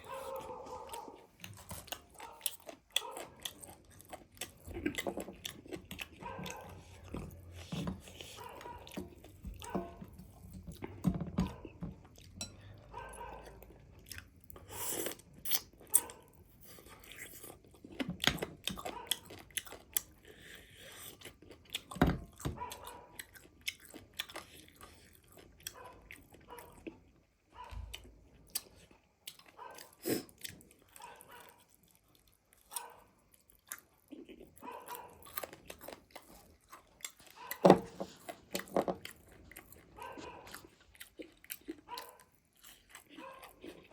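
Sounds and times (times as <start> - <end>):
person chewing fried chicken: 0.0 - 43.9.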